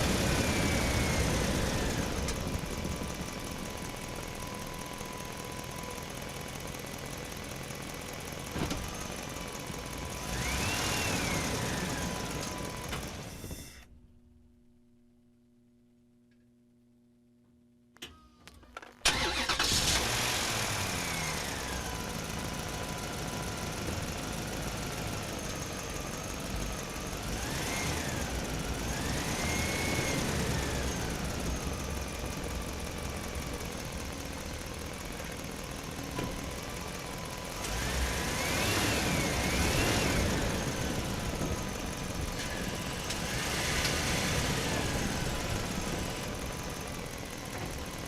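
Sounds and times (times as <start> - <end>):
truck engine and road noise: 0.0 - 14.5, 18.0 - 48.0.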